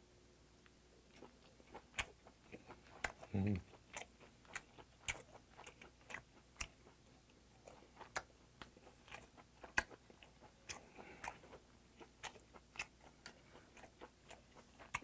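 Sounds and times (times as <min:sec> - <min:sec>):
person chewing food: 0:00.6 - 0:15.0.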